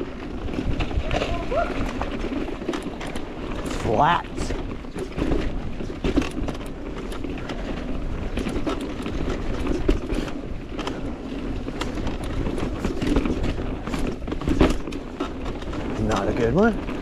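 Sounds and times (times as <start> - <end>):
bike clicks and rattles: 0.0 - 17.0
bike tyres rumbling on dirt: 0.0 - 17.0
wind buffeting microphone: 0.0 - 17.0.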